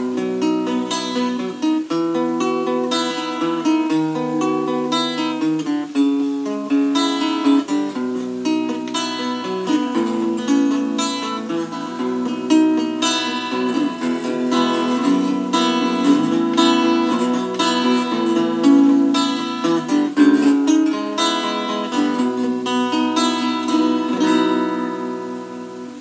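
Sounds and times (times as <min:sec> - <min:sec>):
acoustic guitar playing: 0:00.0 - 0:26.0.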